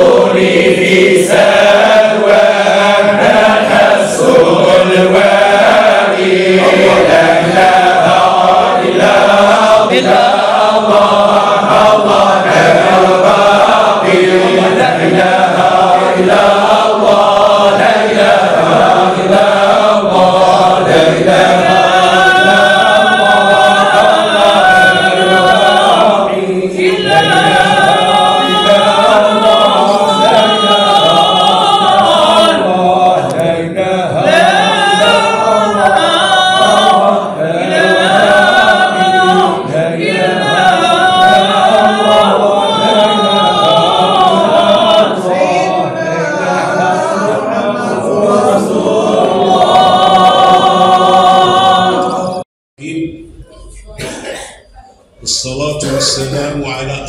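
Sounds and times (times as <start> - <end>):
men chanting devotional songs: 0.0 - 57.0.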